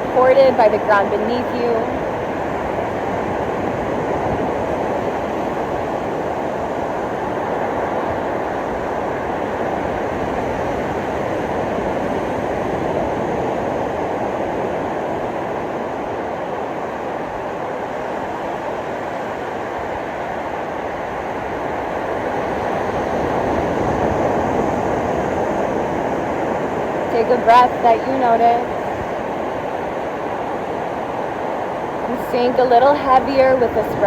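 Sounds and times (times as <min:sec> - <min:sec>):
waves breaking on beach: 0:00.0 - 0:34.0.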